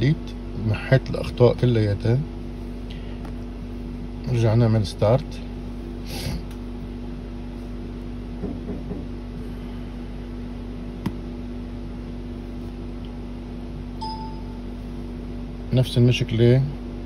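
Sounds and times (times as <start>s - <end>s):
engine cooling fan humming: 0.0s - 17.0s.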